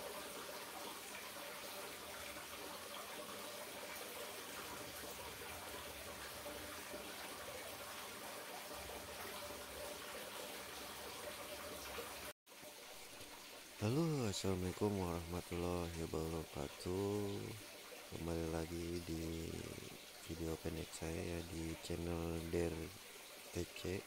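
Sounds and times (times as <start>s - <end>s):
trickle of running water: 0.0s - 24.0s.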